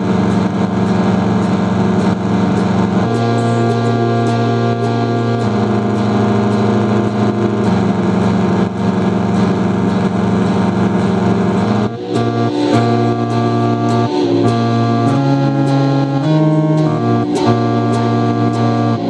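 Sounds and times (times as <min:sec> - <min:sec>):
electric guitar chords: 0:00.0 - 0:19.0
electronic keyboard chords: 0:00.0 - 0:19.0.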